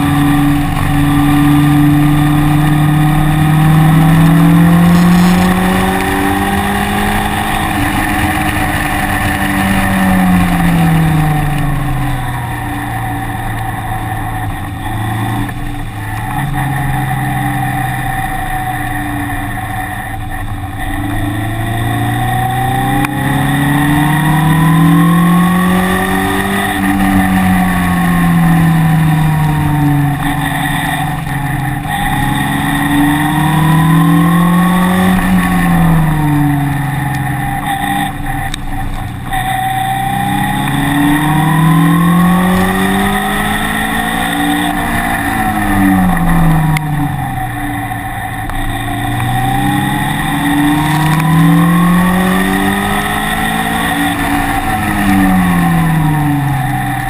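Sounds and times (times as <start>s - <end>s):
car engine revving under acceleration: 0.0s - 57.0s.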